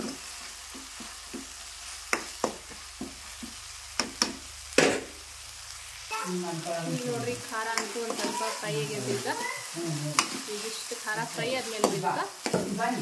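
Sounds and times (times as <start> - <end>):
masala sizzling in oil: 0.0 - 13.0.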